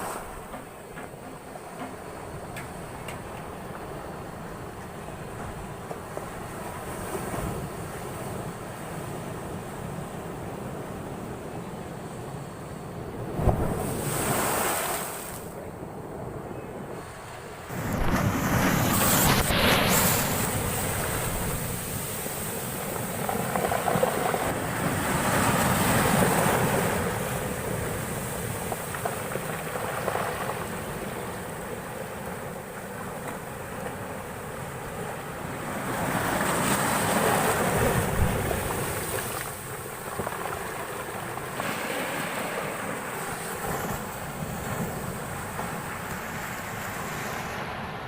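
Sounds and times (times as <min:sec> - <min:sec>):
storm surf breaking: 0:00.0 - 0:48.0.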